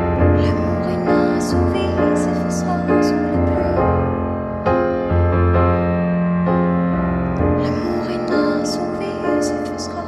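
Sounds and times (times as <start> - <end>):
piano chords: 0.0 - 10.0.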